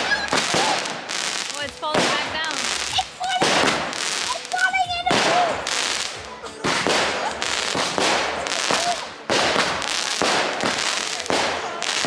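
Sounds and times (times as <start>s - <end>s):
firework bangs: 0.0s - 12.0s
firework hissing crackle: 0.0s - 12.0s.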